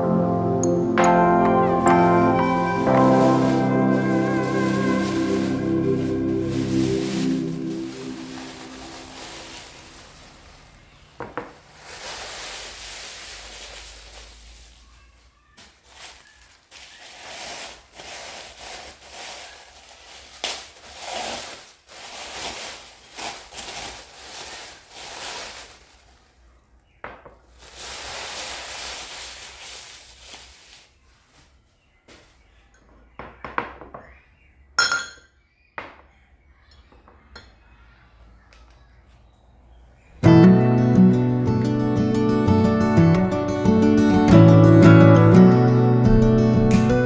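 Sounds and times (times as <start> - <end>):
rustling handling noises: 1.0 - 33.4, 38.2 - 47.0.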